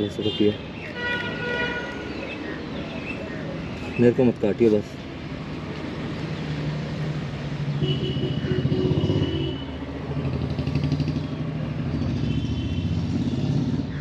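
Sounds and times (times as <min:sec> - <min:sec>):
traffic engine hum: 0:00.0 - 0:14.0.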